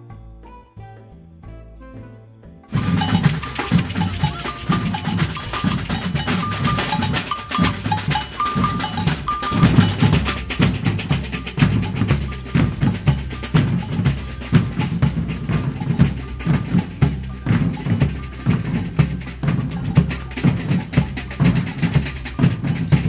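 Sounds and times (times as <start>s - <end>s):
bass drums: 0.0s - 23.0s
snare drums: 2.7s - 23.0s.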